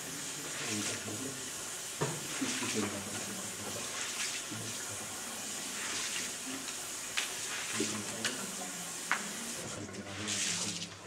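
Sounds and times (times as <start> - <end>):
recording hiss: 0.0 - 11.0.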